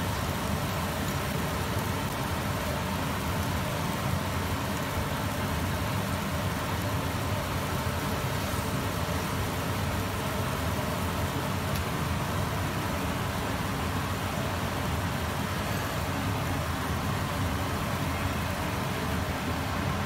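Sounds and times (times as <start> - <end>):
low rumbling of stovetop: 0.0 - 20.0.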